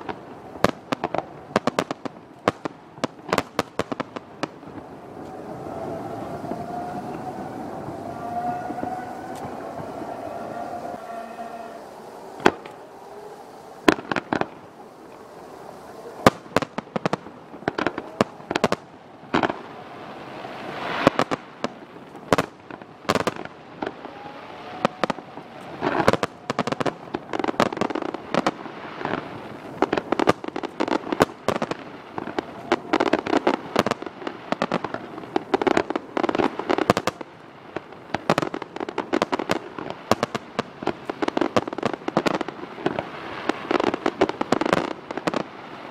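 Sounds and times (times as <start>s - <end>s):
fireworks bursting: 0.0s - 45.9s.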